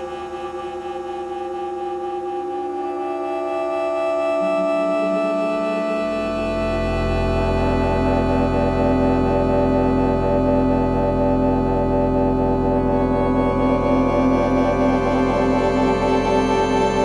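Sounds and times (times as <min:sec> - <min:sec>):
low drone: 0:00.0 - 0:17.0
slow sustained chords: 0:00.0 - 0:17.0.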